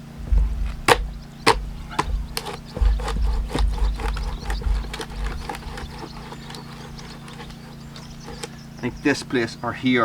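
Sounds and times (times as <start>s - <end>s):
dull low rumbles: 0.0s - 9.4s
wood cracking and popping: 0.0s - 9.4s.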